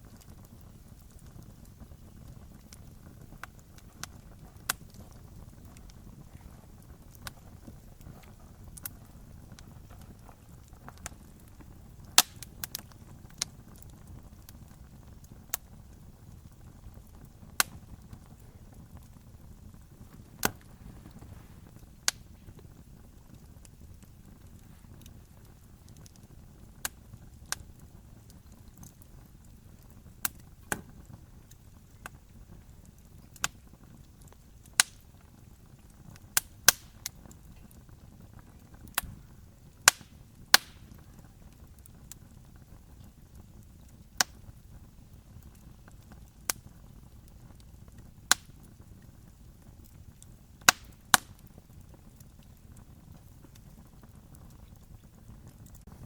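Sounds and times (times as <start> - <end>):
campfire pops and snaps: 0.0 - 56.0
low hiss of burning fire: 0.0 - 56.0.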